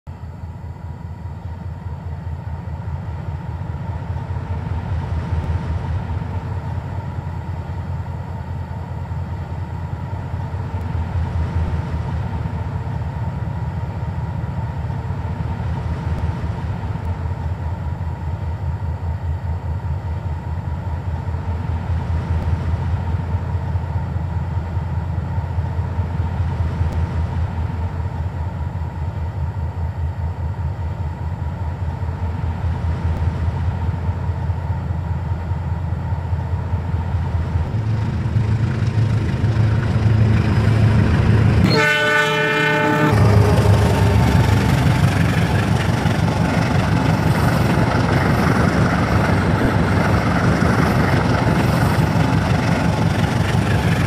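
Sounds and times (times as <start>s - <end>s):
train diesel engine drone: 0.0s - 54.0s.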